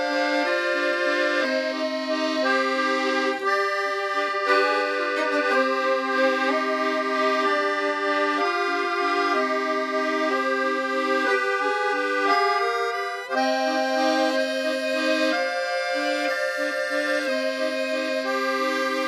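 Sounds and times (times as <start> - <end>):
sustained instrumental chords: 0.0 - 19.0.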